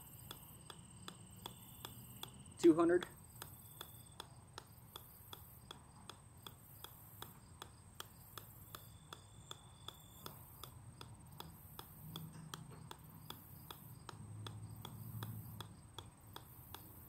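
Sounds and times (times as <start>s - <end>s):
ball tapping on metal: 0.0s - 17.0s.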